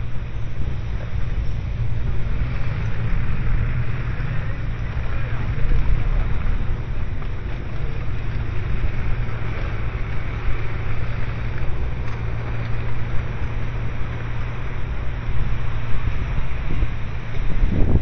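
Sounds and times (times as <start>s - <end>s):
low engine rumble: 0.0s - 18.0s
outdoor hiss: 0.0s - 18.0s.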